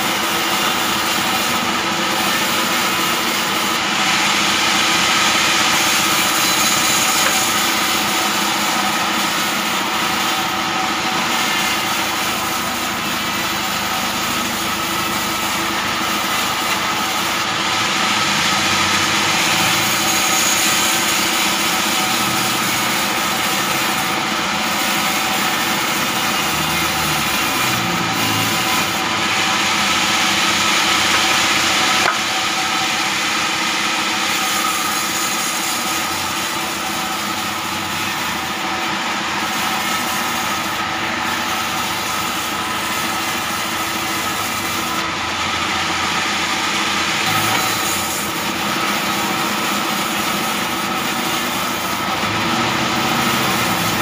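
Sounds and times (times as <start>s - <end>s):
band saw cutting wood: 0.0s - 54.0s
band saw running: 0.0s - 54.0s.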